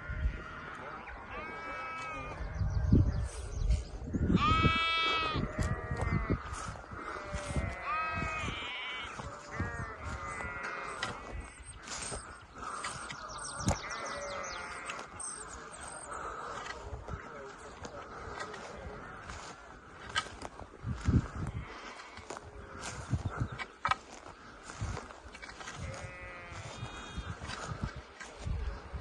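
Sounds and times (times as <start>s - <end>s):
livestock bleating: 0.0s - 2.7s, 4.2s - 20.3s, 20.9s - 23.5s, 24.6s - 27.8s.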